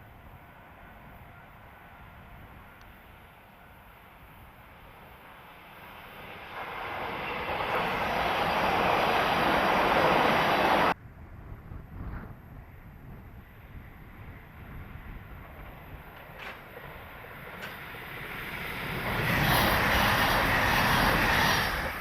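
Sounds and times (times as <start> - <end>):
train passing close by: 0.0 - 22.0.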